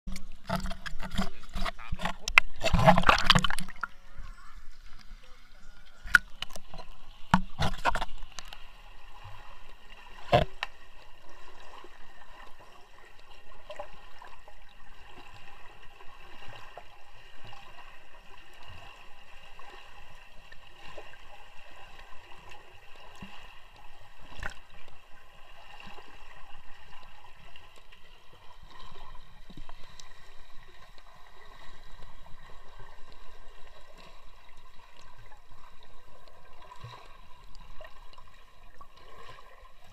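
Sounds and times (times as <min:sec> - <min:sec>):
muffled water gurgling and sloshing: 0:00.1 - 0:39.9.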